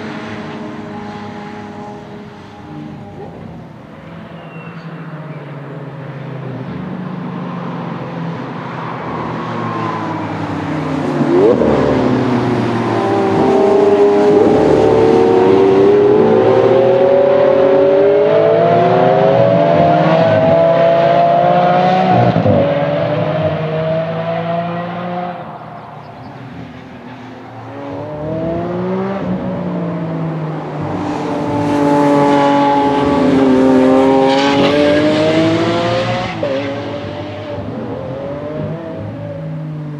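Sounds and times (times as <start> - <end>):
sports car engines accelerating: 0.0 - 39.9.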